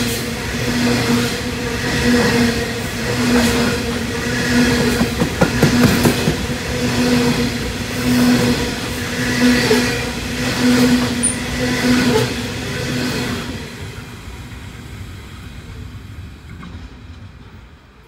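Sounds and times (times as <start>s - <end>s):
train wheels clattering over rails: 0.0s - 13.9s, 16.4s - 18.0s.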